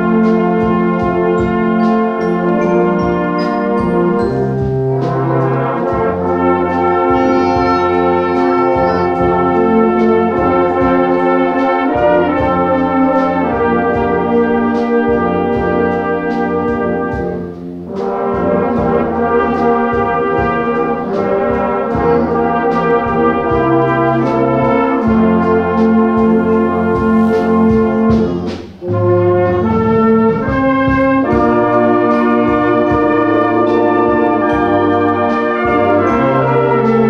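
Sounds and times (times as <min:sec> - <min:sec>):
brass band playing a hymn: 0:00.0 - 0:37.0.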